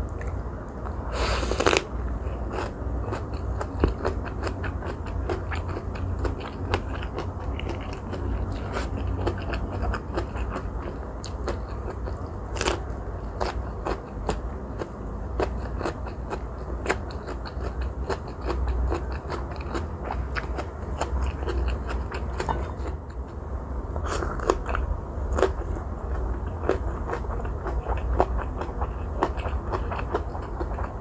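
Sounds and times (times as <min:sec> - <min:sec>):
steady low hum: 0:00.0 - 0:31.0
crunchy chewing: 0:01.2 - 0:23.4, 0:24.0 - 0:31.0.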